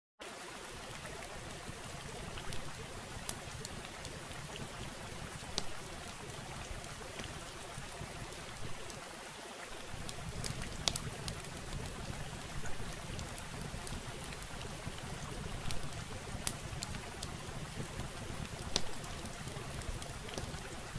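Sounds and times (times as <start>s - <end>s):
steady hiss: 0.2s - 20.9s
small clicks and crackles: 1.0s - 9.0s, 9.7s - 20.9s.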